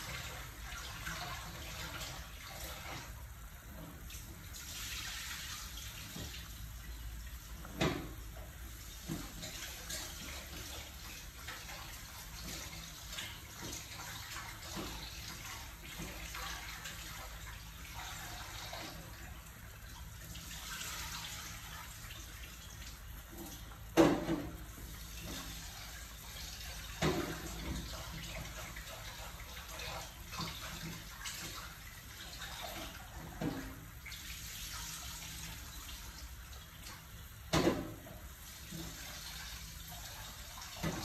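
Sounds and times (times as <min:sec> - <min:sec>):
soup bubbling at a rolling boil: 0:00.0 - 0:41.0.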